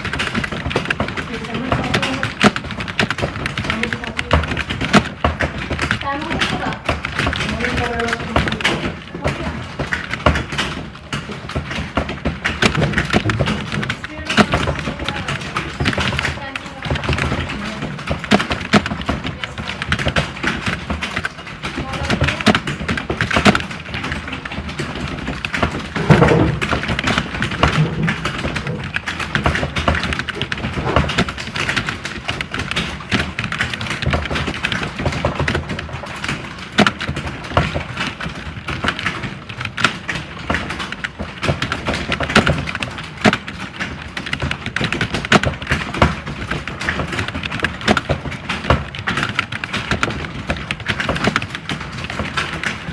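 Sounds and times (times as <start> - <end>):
keyboard typing clatter: 0.0 - 52.9.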